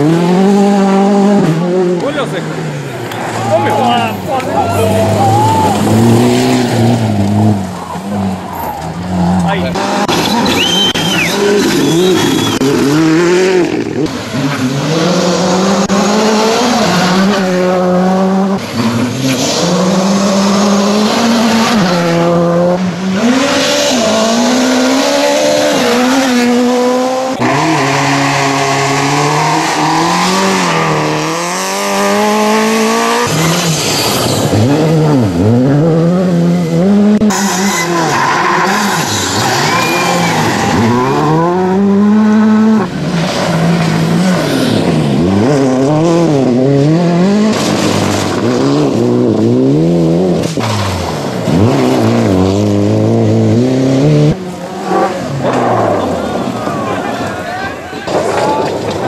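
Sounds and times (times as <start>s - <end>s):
rally car engine revving: 0.0s - 57.3s.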